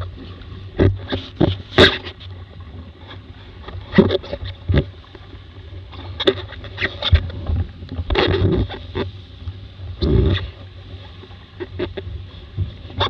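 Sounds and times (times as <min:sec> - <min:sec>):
water splashing against hull: 0:00.0 - 0:13.0.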